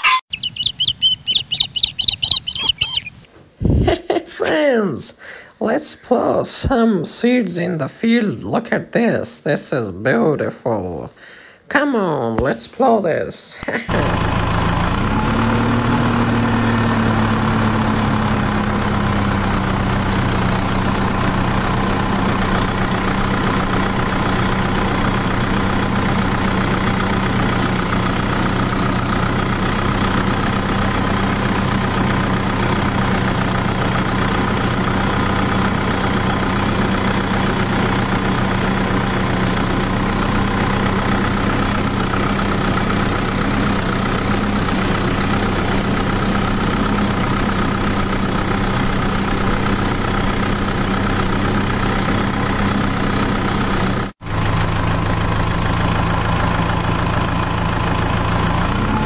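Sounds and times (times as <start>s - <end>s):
small tractor engine drone: 0.0s - 4.8s, 13.6s - 59.0s.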